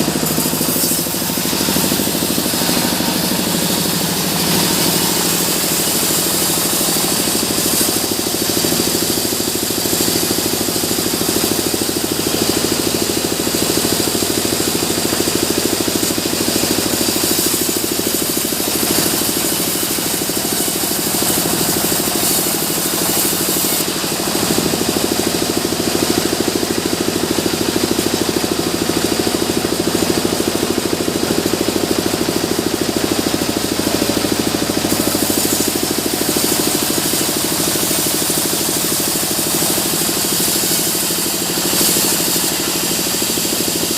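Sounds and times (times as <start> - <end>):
fast pulsing rattle: 0.0 - 26.9, 33.8 - 43.9
sawmill machinery drone: 0.0 - 43.9.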